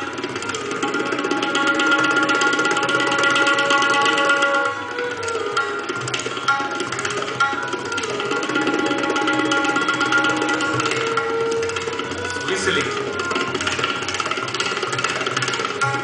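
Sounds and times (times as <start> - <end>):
tabla played fast: 0.0 - 16.0.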